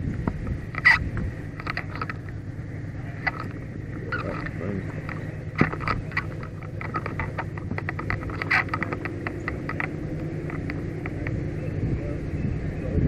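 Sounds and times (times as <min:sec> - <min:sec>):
sharp clicks and rattles: 0:00.0 - 0:11.8
fire truck engine and road rumble: 0:00.0 - 0:13.0.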